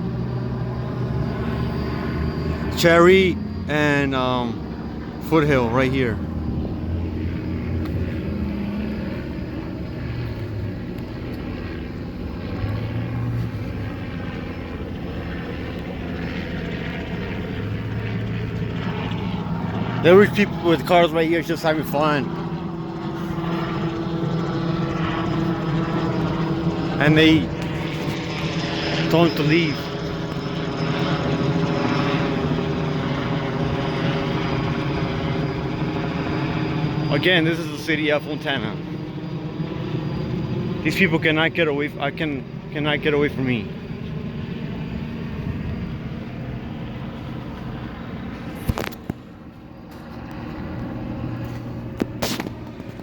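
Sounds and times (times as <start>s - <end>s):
engine drone: 0.0s - 53.0s.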